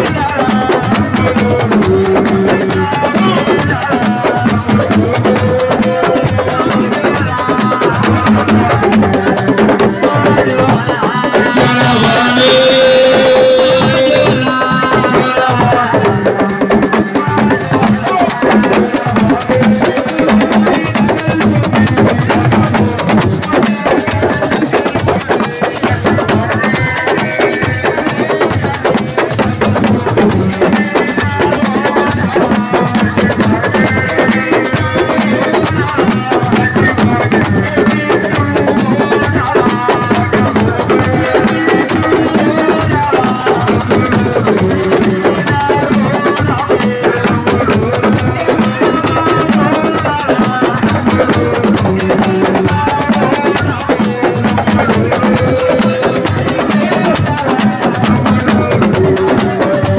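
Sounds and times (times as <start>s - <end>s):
fast hand-drum rhythm: 0.0s - 59.9s.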